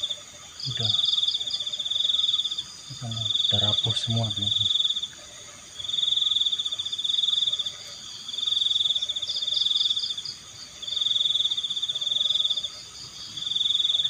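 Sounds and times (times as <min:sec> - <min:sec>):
cricket trilling: 0:00.0 - 0:14.0
faint high insect pulsing: 0:00.0 - 0:14.0.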